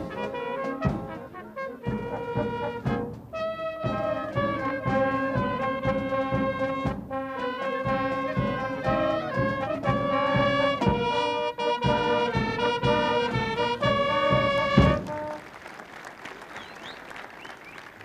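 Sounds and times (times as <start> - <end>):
steady drum beat: 0.0 - 15.4
brass band music: 0.0 - 17.2.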